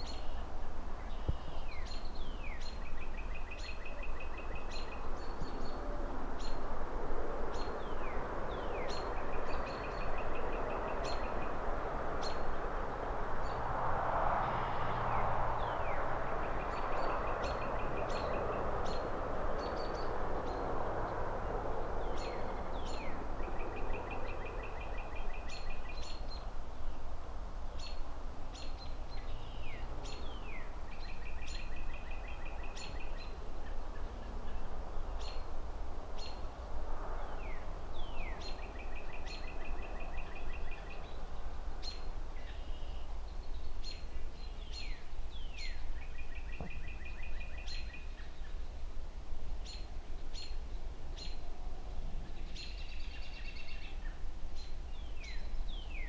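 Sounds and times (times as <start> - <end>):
low traffic hum: 0.0 - 56.0
car passing: 0.1 - 48.7.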